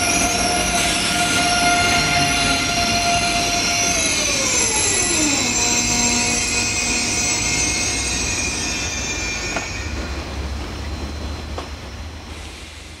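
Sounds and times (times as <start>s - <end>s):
train low rumble: 0.0s - 13.0s
train whine and squeal: 0.0s - 13.0s.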